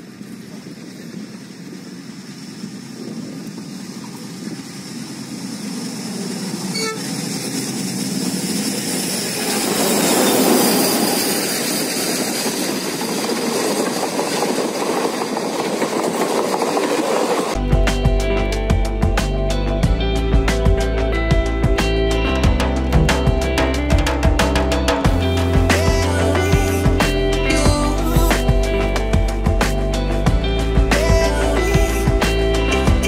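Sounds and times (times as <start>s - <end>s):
train passing on rails: 0.0s - 33.0s.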